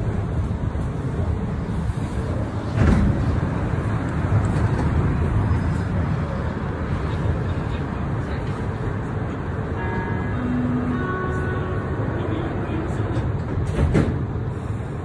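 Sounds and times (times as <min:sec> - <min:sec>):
train rumble from inside: 0:00.0 - 0:15.0.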